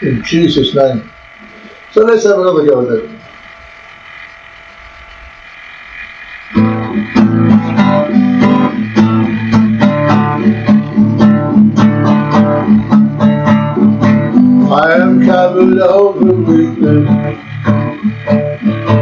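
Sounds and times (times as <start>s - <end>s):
faint steady hum: 0.0s - 19.0s
guitar picked and strummed: 2.9s - 19.0s.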